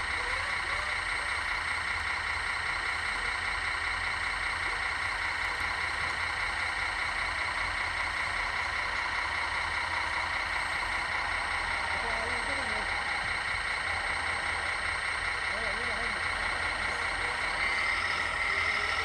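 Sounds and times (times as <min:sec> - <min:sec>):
high whine: 0:00.0 - 0:19.0
model engine idle hum: 0:00.0 - 0:19.0.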